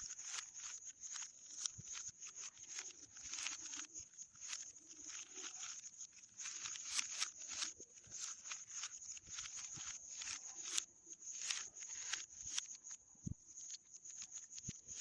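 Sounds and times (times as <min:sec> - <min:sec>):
rubik's cube turning clacks: 0:00.0 - 0:13.0, 0:13.6 - 0:15.0.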